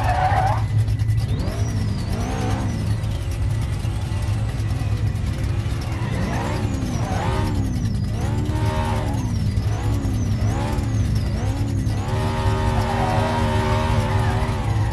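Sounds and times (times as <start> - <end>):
car engine revving: 0.0 - 14.9
supercharger whine: 0.0 - 14.9.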